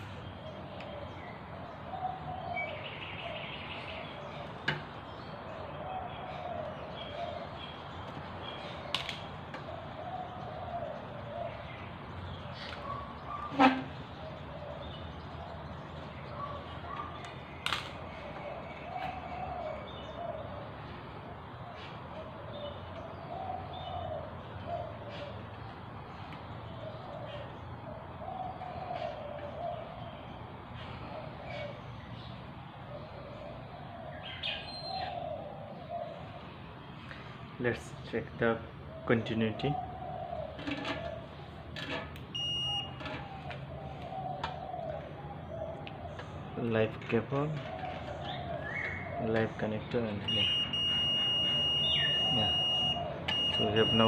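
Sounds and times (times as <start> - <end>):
birds chirping: 0.0 - 54.0
pigeons cooing: 0.0 - 54.0.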